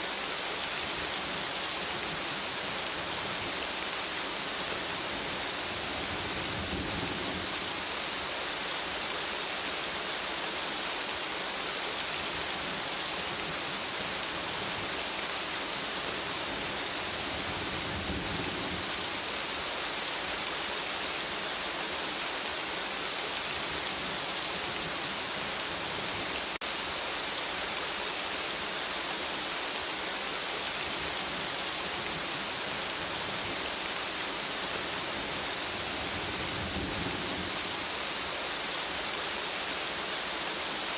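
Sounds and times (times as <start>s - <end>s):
rain falling on forest: 0.0s - 40.9s.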